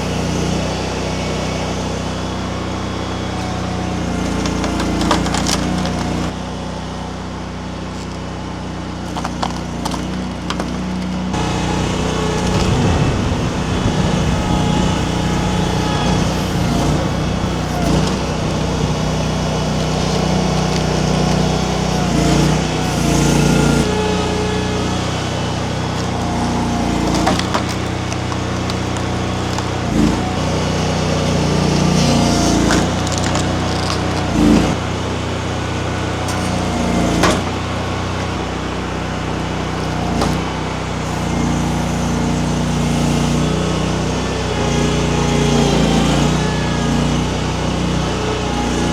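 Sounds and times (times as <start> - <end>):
skid steer engine running: 0.0 - 48.9
wood splitting cracks: 3.4 - 6.4, 9.0 - 48.9.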